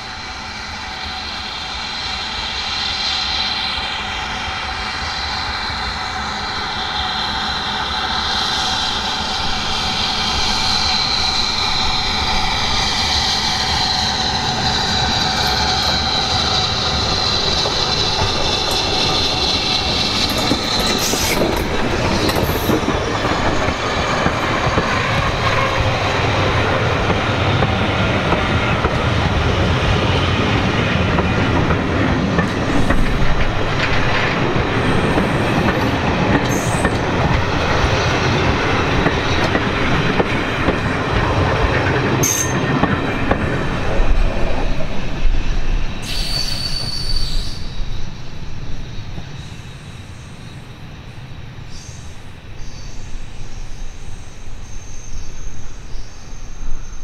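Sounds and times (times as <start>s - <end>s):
train wheels rumbling and clicking: 0.0s - 51.8s.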